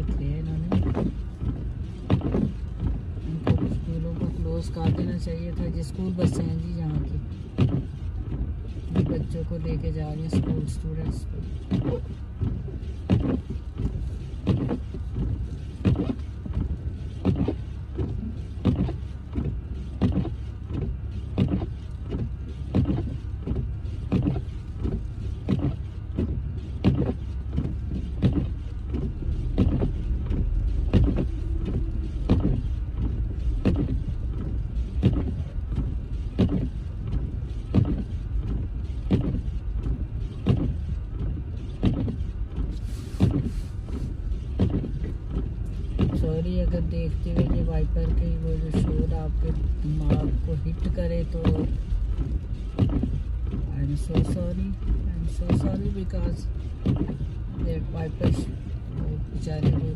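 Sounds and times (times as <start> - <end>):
car driving rumble: 0.0 - 59.9
windshield wipers sweeping fast: 0.0 - 59.9.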